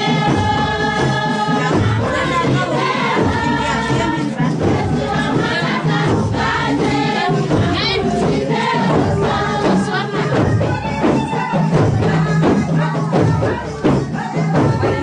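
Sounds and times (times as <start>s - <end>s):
group singing in chorus: 0.0s - 15.0s
percussion beating: 0.0s - 15.0s.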